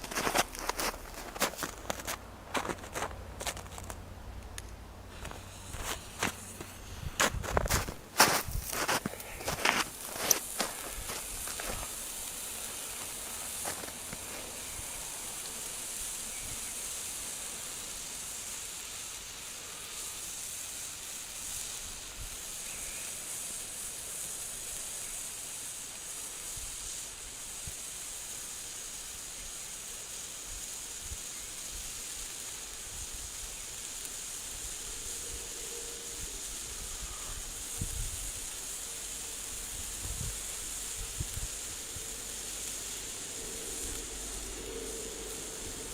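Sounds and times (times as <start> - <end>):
firework fountain hissing: 0.0 - 45.9.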